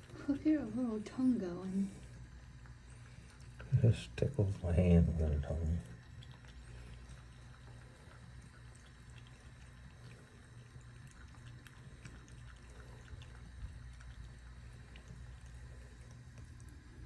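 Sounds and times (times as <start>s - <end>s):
cat lapping water: 0.0s - 17.0s
low steady hum: 0.0s - 17.0s
water trickling: 0.0s - 17.0s.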